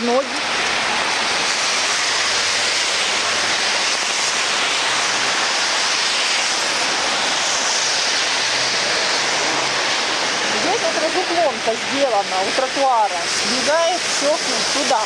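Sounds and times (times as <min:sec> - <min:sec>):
heavy rain hissing: 0:00.0 - 0:15.0
water running over the street: 0:00.0 - 0:15.0.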